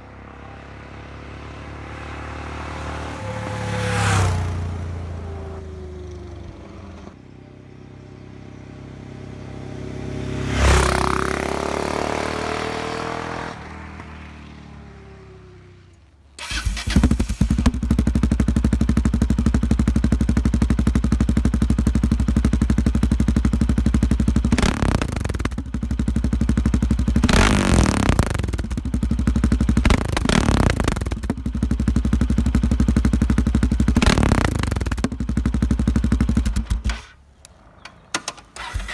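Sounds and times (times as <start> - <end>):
motorcycle engine running loud: 0.0 - 38.0
motorcycle riding past: 0.0 - 38.9.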